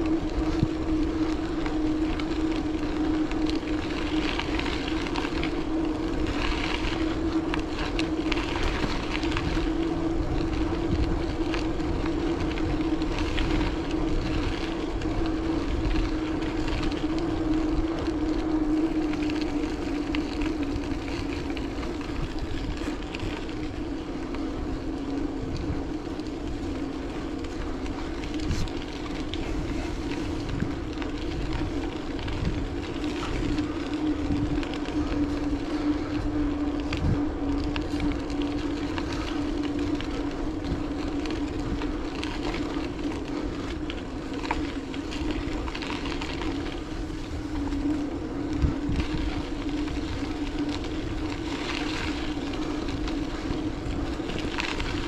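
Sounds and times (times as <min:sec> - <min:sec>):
bicycle rolling along path: 0:00.0 - 0:55.0.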